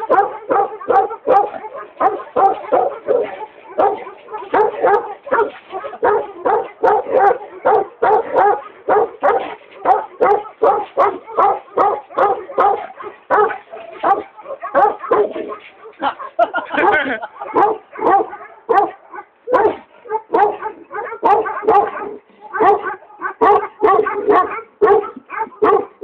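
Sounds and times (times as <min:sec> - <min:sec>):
dog barking: 0:00.0 - 0:26.0.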